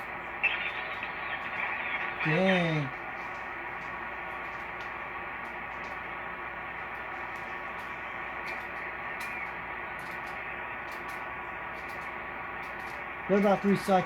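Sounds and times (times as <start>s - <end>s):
faint steady radio tones: 0.0s - 14.0s
radio static hiss: 0.0s - 14.0s.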